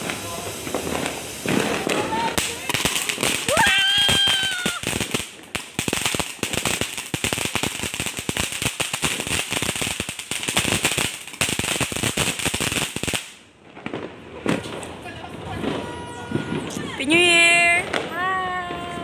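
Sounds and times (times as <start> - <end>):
firework fountain crackling and popping: 0.0 - 19.0.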